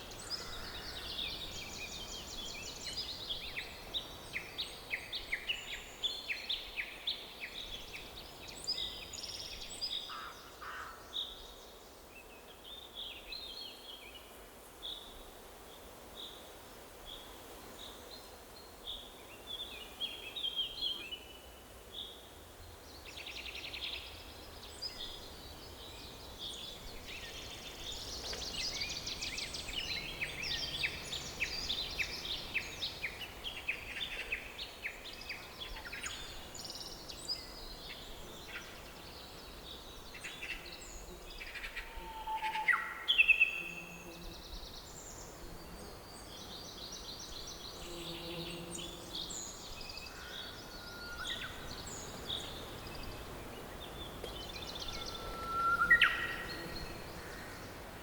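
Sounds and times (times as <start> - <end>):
songbirds singing and calling: 0.0 - 14.3, 17.1 - 58.0
forest ambience hiss: 0.0 - 58.0.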